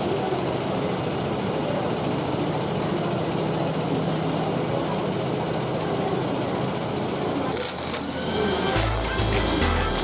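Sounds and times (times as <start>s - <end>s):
workshop machine running: 0.0s - 10.0s.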